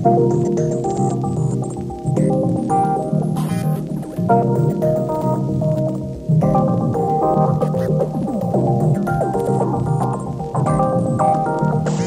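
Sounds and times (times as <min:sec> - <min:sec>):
synthesizer chords over bass: 0:00.0 - 0:12.0.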